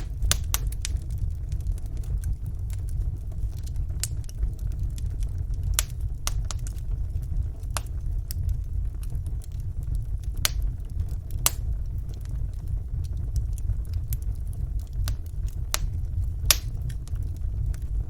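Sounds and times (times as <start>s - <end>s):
fire flames rumbling: 0.0s - 18.0s
wood fire crackling and popping: 0.0s - 18.0s.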